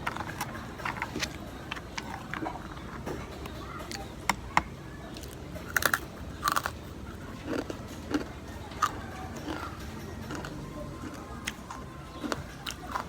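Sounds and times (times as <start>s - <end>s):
chewing crispy fries: 0.0s - 13.0s.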